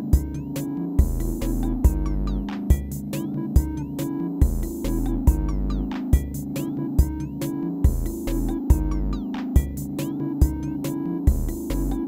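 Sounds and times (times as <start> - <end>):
drum machine kick: 0.0 - 12.0
hi-hats: 0.0 - 12.0
synth bass line: 0.0 - 12.0.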